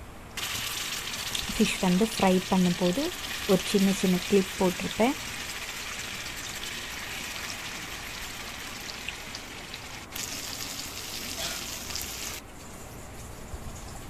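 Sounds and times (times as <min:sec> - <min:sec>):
fish frying in hot oil: 0:00.4 - 0:12.4.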